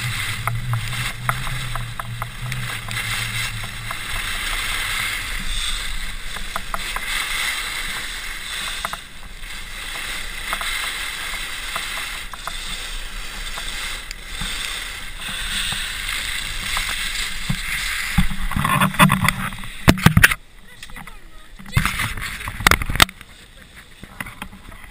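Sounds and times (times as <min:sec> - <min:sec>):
wind on microphone: 0:00.0 - 0:20.4
skis scraping on snow: 0:00.0 - 0:24.9.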